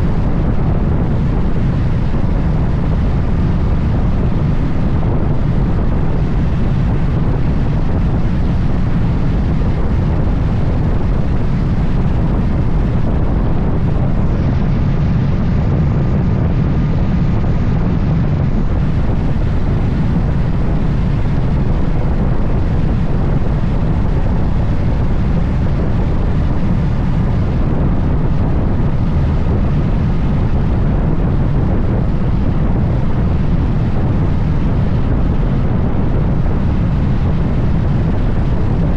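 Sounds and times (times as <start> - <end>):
road and vehicle noise: 0.0 - 38.9
wind roar on microphone: 0.0 - 38.9.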